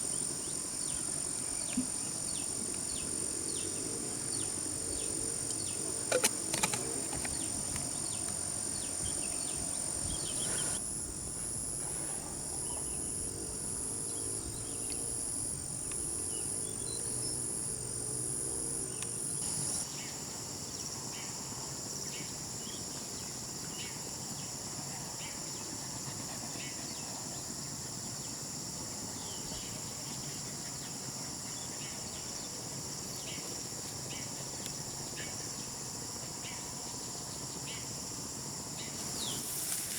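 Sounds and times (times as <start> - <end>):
pulsing insect call: 0.0 - 19.8, 23.6 - 39.9
high-pitched insect chorus: 0.0 - 39.9.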